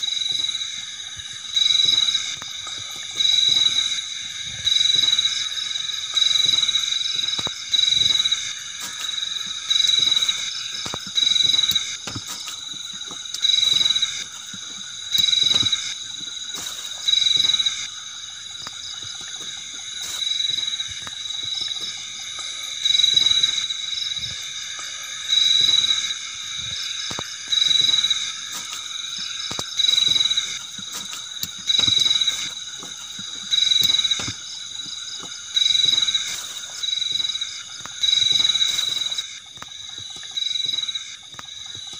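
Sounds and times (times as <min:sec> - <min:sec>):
cricket trill: 0:00.0 - 0:41.9
crickets chirping: 0:00.0 - 0:41.9.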